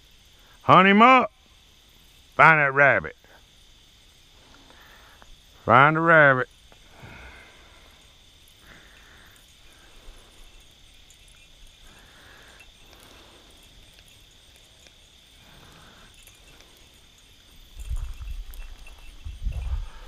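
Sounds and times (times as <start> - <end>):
night insects trilling: 0.0 - 20.0.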